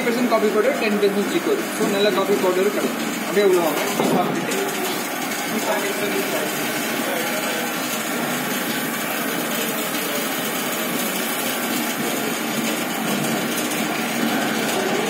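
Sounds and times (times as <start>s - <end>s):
coffee beans rushing in cooling tray: 0.0s - 15.0s.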